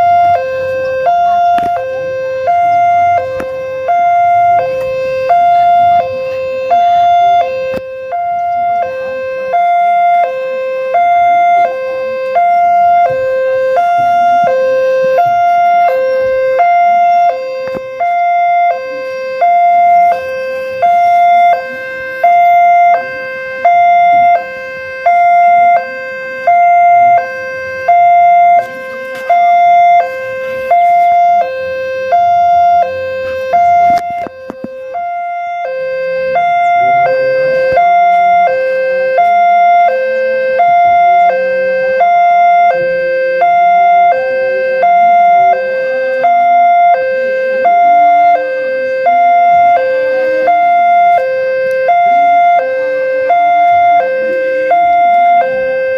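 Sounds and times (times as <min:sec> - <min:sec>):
level crossing two-tone alarm: 0:00.0 - 0:55.9
low engine drone: 0:00.0 - 0:55.9.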